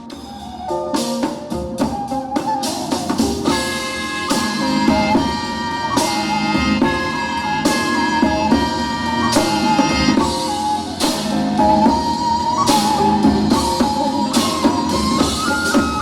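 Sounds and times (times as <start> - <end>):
melody over drums: 0.0 - 16.0.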